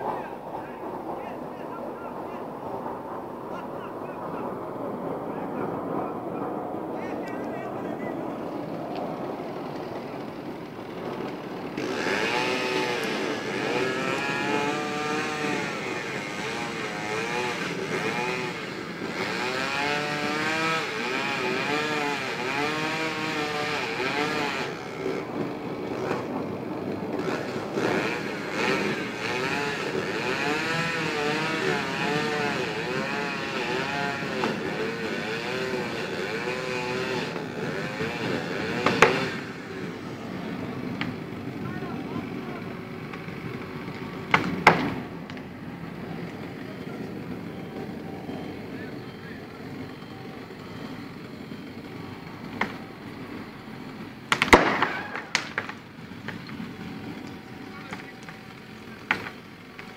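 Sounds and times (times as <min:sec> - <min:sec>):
chainsaw cutting: 0:08.4 - 0:59.9.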